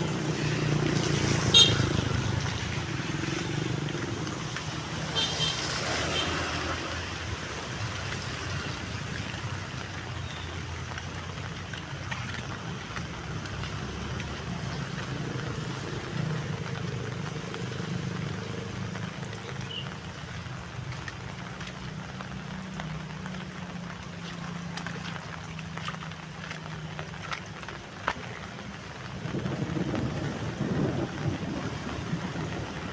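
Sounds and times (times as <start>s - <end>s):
heavy rain falling: 0.0s - 32.9s.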